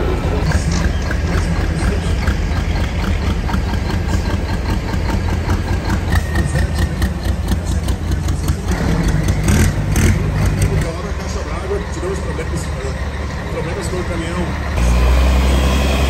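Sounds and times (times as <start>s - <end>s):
diesel truck engines idling: 0.0s - 16.0s.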